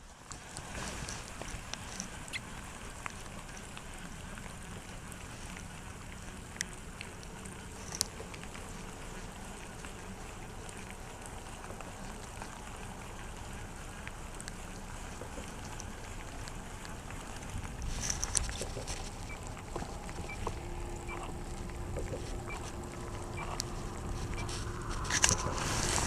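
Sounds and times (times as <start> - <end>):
open-air hiss: 0.0 - 26.0.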